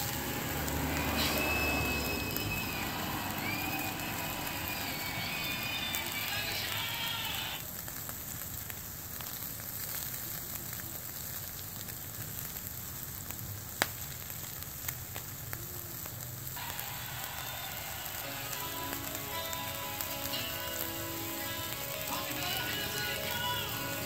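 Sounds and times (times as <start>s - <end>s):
crackle of small pops: 0.0s - 24.0s
food sizzling on charcoal grill: 0.0s - 24.0s.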